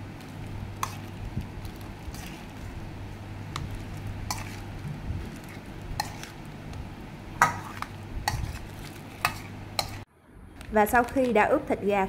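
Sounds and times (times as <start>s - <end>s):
meat squelching and rustling: 0.0s - 11.7s.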